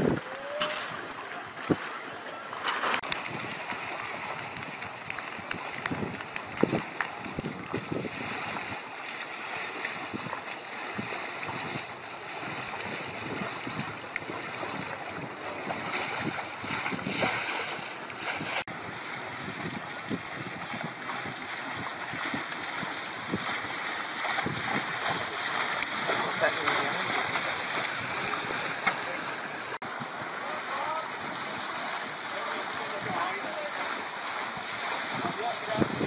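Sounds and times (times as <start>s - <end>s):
wind buffeting microphone: 0.0s - 1.9s, 2.9s - 36.0s
water splashing at boat bows: 0.0s - 36.0s.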